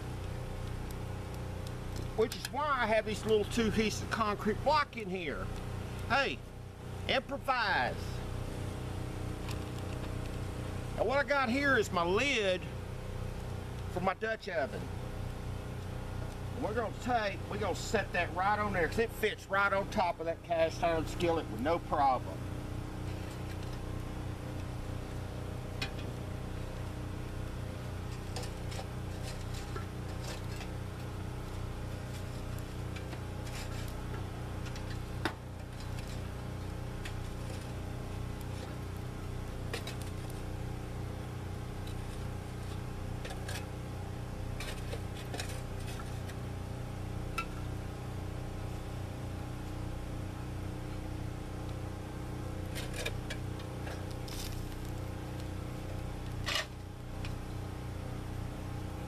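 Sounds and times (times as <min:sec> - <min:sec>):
motor-like hum: 0:00.0 - 0:59.0.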